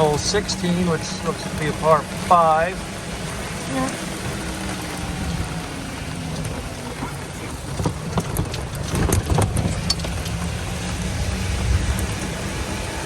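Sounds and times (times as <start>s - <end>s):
golf cart engine rumble: 0.0s - 13.0s.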